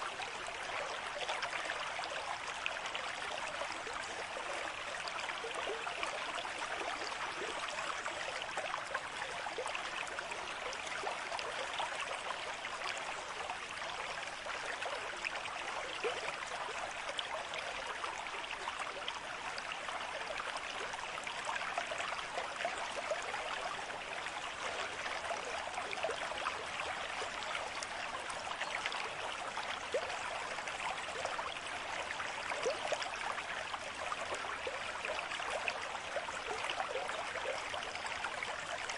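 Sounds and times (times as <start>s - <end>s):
water babbling and splashing: 0.0s - 38.9s.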